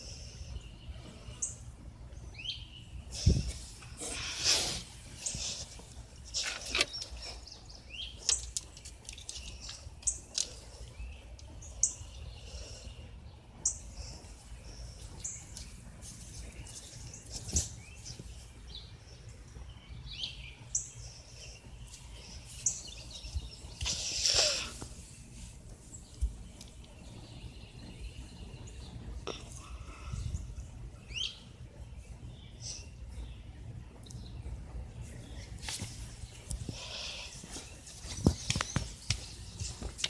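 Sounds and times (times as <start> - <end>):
birds chirping: 0.0 - 40.0
steady low rumble: 0.0 - 40.0.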